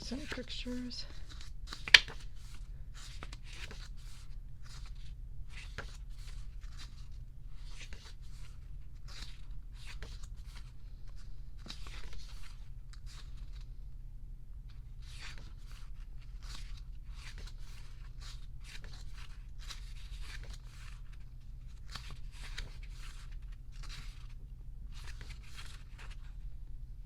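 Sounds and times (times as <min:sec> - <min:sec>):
book pages turning: 0:00.0 - 0:13.7, 0:14.7 - 0:26.3.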